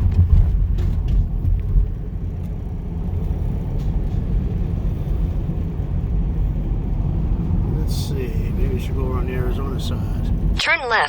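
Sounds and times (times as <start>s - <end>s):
van engine and road rumble: 0.0s - 11.0s.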